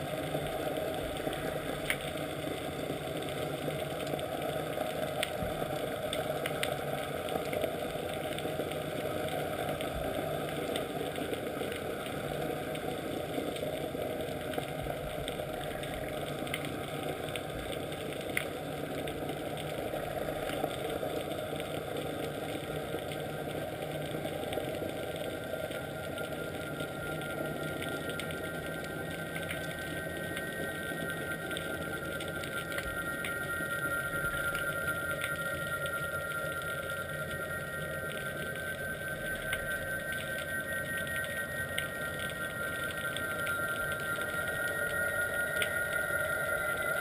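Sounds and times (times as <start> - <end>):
boat engine drone underwater: 0.0 - 47.0.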